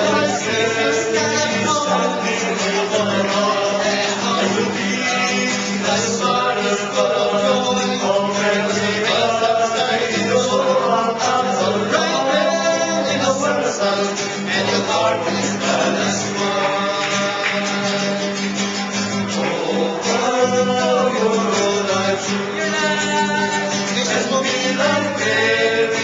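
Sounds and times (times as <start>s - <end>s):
men singing in harmony: 0.0s - 26.0s
strummed acoustic guitar: 0.0s - 26.0s.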